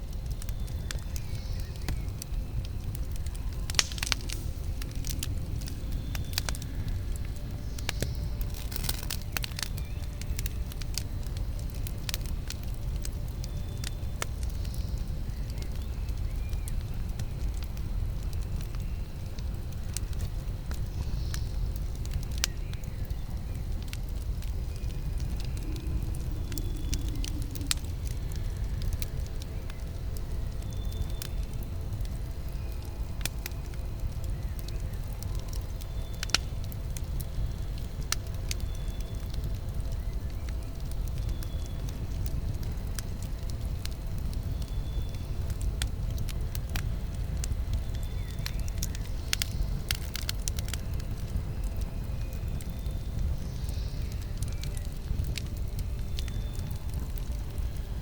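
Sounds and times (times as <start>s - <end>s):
campfire flames rumbling: 0.0s - 58.0s
fire crackling and popping: 0.0s - 58.0s.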